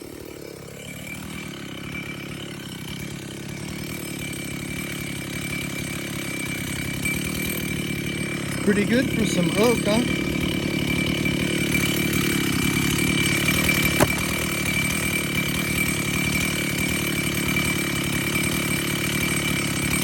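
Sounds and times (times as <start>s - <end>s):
chainsaw engine running: 0.0s - 20.0s.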